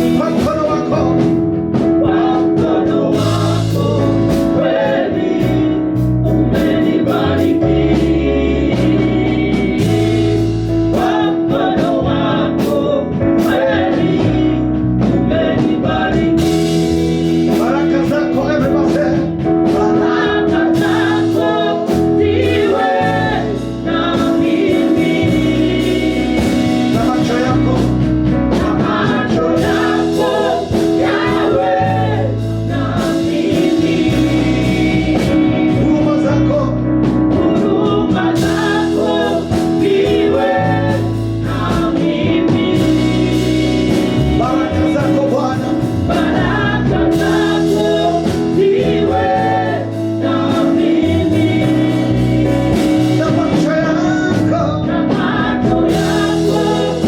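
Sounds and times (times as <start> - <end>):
band playing gospel song: 0.0 - 57.0
people singing: 0.0 - 57.0.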